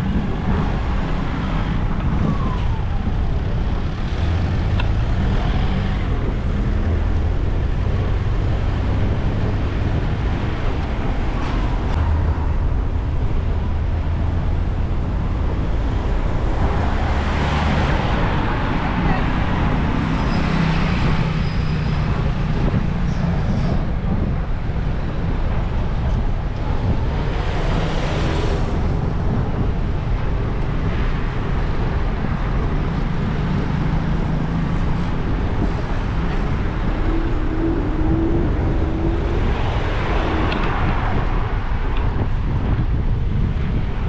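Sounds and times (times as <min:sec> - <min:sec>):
road traffic engine noise: 0:00.0 - 0:44.0
wind buffeting microphone: 0:00.0 - 0:44.0.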